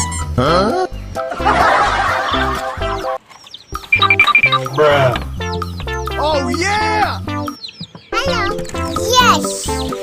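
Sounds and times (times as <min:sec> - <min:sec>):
playful cartoon music: 0:00.0 - 0:03.2, 0:03.8 - 0:10.0.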